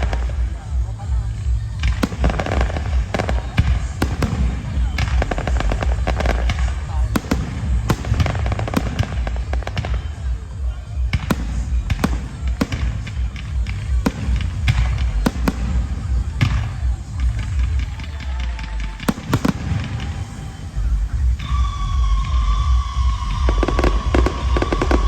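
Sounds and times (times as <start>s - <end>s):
continuous low rumble: 0.0s - 25.0s
fireworks bangs: 0.0s - 25.0s.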